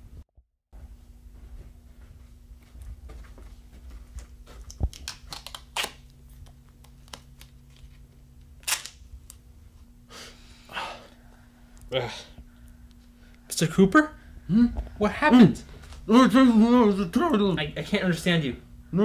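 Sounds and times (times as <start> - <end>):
steady low hum: 0.8 - 19.0.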